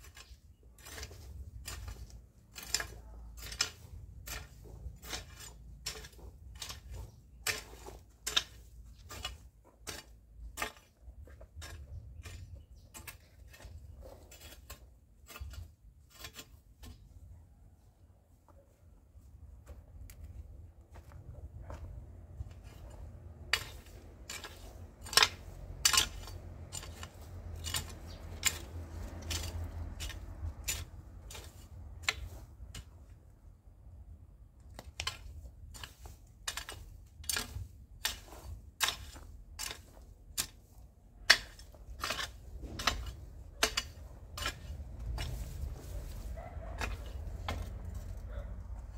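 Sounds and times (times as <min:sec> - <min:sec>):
hoe chopping into dry soil: 0:00.0 - 0:17.1, 0:22.5 - 0:33.1, 0:34.7 - 0:48.2.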